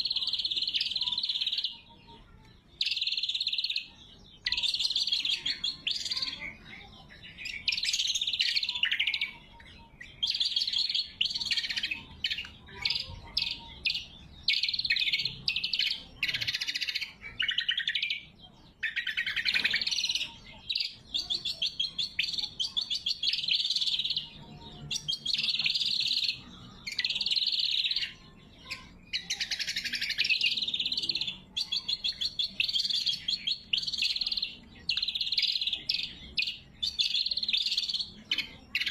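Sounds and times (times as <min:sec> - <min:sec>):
bird singing rapid trills: 0:00.0 - 0:38.9.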